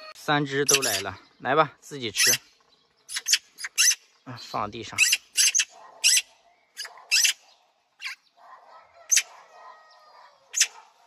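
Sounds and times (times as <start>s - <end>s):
young magpies begging calls: 0.0s - 11.0s.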